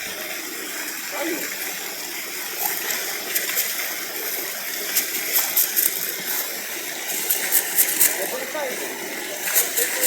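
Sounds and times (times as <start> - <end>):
waterfall running: 0.0 - 10.0.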